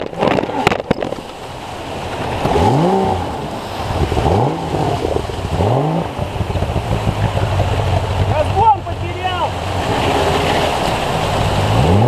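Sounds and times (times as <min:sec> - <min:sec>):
outboard engine revving: 0:00.0 - 0:12.0
water rushing over rapid: 0:00.0 - 0:12.0.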